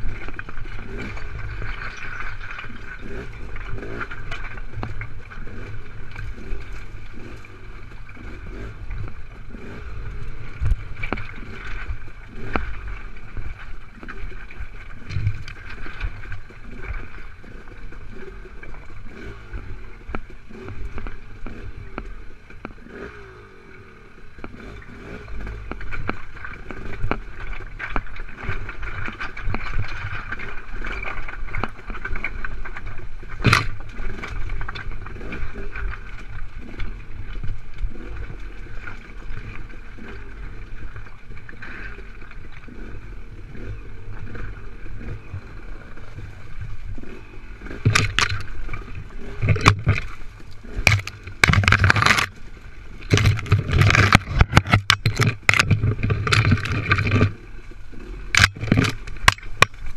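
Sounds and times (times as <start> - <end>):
branches scraping against bike: 0.0 - 59.9
dirt bike engine at low speed: 0.0 - 59.9.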